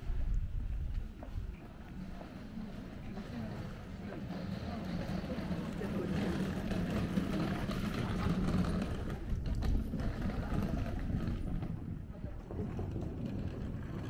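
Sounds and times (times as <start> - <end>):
motor vehicle rumble: 0.0 - 14.0
street noise: 0.0 - 14.0.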